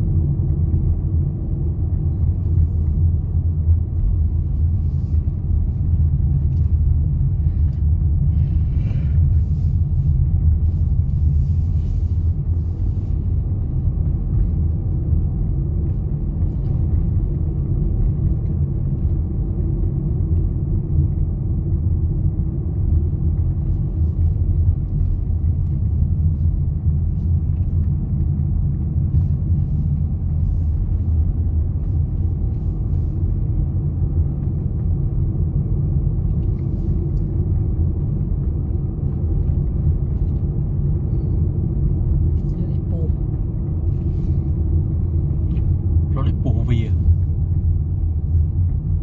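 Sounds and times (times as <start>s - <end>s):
car driving on paved road: 0.0s - 49.0s.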